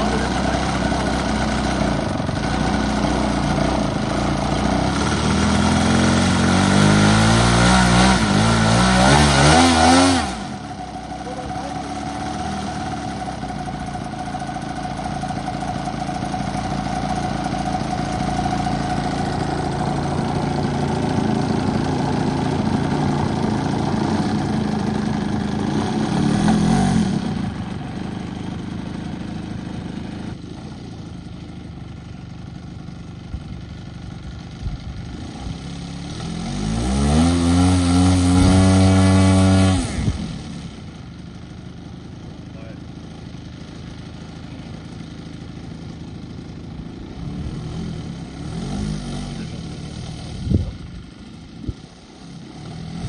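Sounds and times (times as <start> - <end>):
model aircraft engine running: 0.0 - 53.0.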